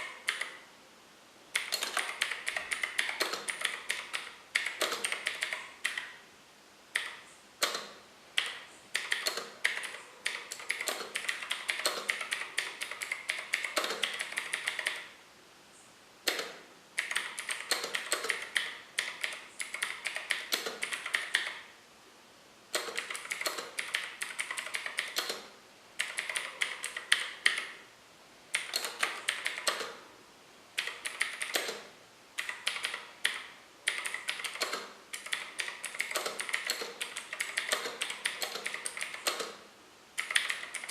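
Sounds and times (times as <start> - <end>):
mechanical keyboard clicks: 0.0 - 0.6, 1.6 - 6.1, 7.0 - 15.1, 16.3 - 21.6, 22.7 - 27.8, 28.5 - 30.0, 30.8 - 39.6, 40.2 - 40.9.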